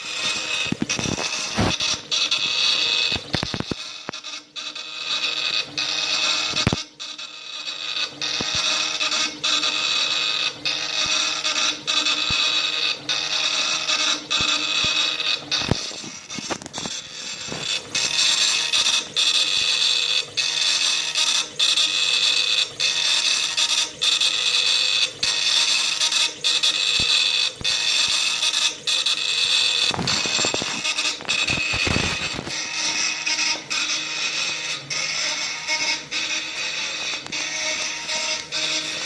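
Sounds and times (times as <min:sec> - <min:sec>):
engraving machine whine: 0:00.0 - 0:39.0.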